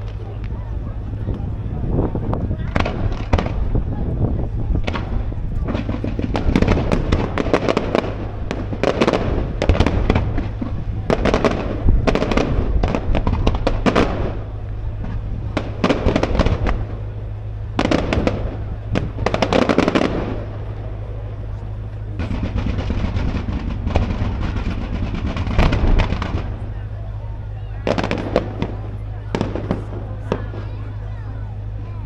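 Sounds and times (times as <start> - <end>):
fireworks crackling explosions: 0.0 - 31.9.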